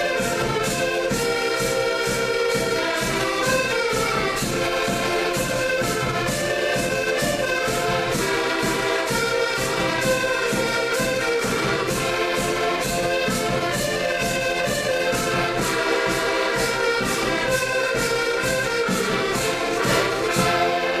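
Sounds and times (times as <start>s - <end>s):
orchestral music with choir and brass: 0.0s - 21.0s.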